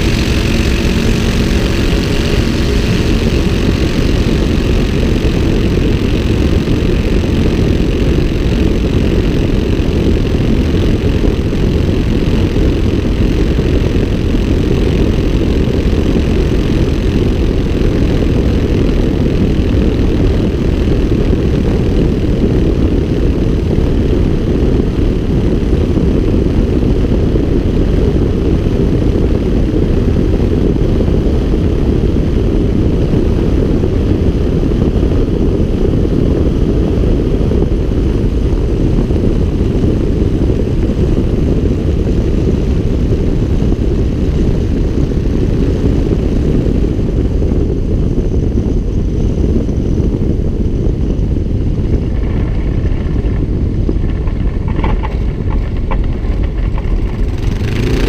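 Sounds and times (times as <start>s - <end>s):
aircraft engine and propeller: 0.0s - 58.0s
wind rushing on microphone: 0.0s - 58.0s.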